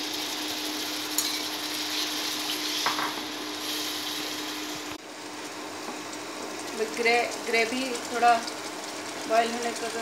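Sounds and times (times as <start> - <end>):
curry sizzling: 0.0 - 10.0.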